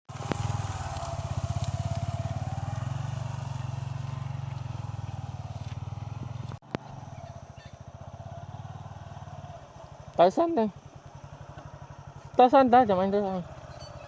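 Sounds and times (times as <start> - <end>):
motorcycle engine running: 0.1 - 14.0.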